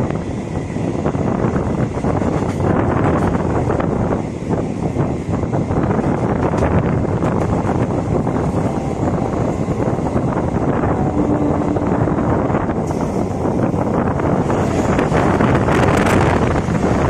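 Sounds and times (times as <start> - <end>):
train wheels on rails: 0.0 - 17.0
wind buffeting microphone: 0.0 - 17.0.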